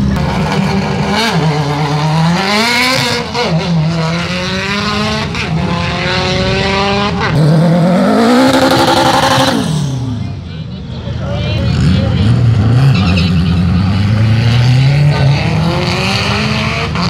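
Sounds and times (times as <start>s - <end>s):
race car accelerating through gears: 0.1s - 10.4s, 11.7s - 17.0s
engine revving loudly: 0.2s - 10.3s, 11.7s - 17.0s.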